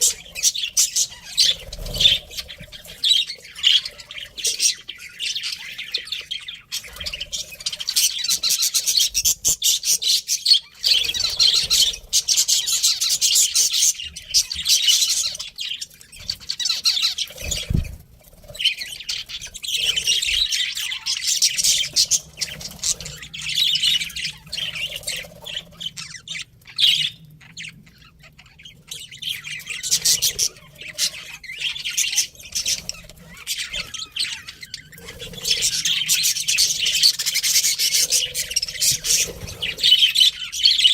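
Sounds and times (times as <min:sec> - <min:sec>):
budgerigars chirping and chattering: 0:00.0 - 0:40.9.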